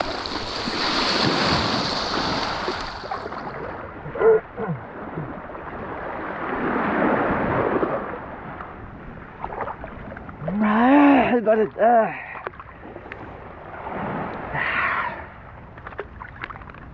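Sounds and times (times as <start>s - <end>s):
sea water rushing: 0.0s - 16.9s.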